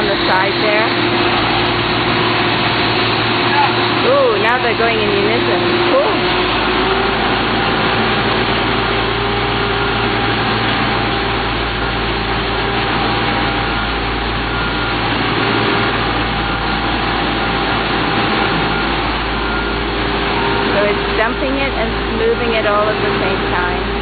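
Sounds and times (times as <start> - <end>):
faint machine whine: 0.0 - 24.0
heavy machine engines droning: 0.0 - 24.0.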